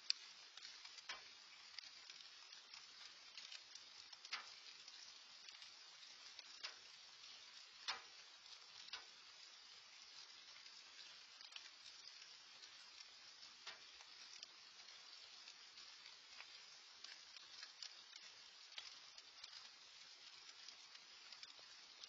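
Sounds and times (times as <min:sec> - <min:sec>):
faint rain hiss: 0:00.0 - 0:22.0.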